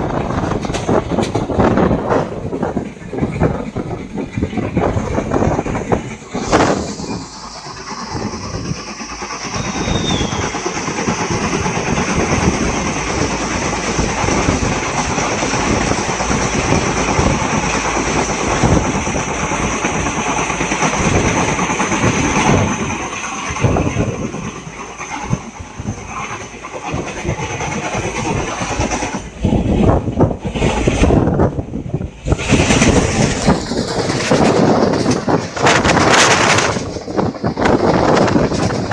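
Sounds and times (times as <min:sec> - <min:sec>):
train passing at high speed: 0:00.0 - 0:38.9.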